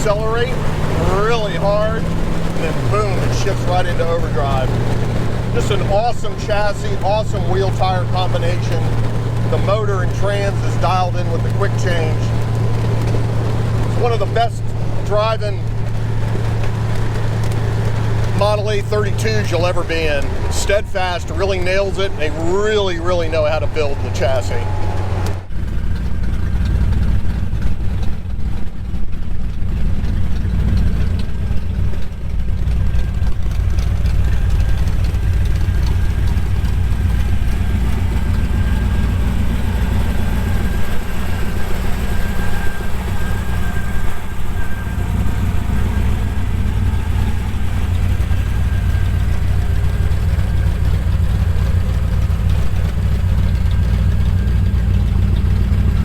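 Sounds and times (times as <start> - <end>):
car engine exhaust rumble: 0.0 - 56.0.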